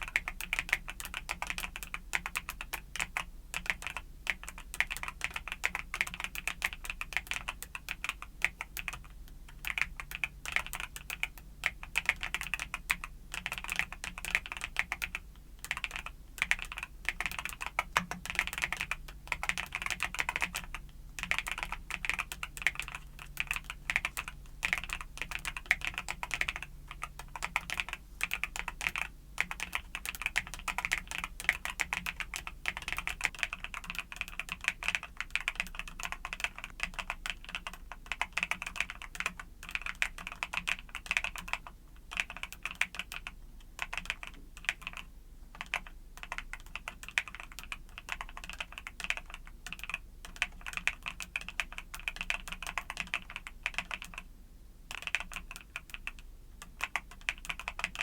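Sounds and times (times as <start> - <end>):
mechanical keyboard typing: 0.0 - 54.3, 54.9 - 58.0.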